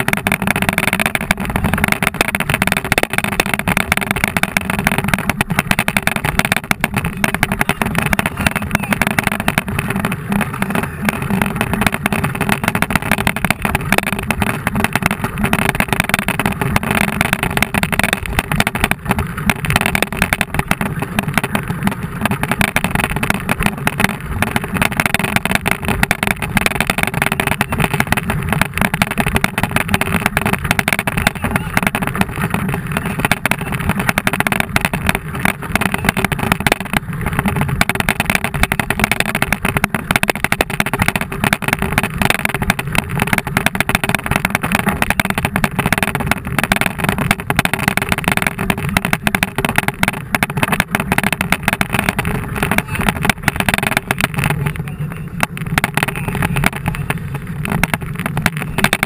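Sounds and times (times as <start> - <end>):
bike tyres rolling: 0.0 - 59.0.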